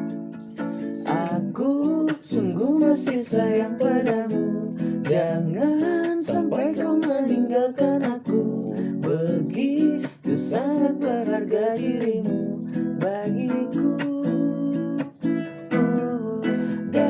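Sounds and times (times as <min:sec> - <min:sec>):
person singing: 0:00.0 - 0:17.0
strummed acoustic guitar: 0:00.0 - 0:17.0.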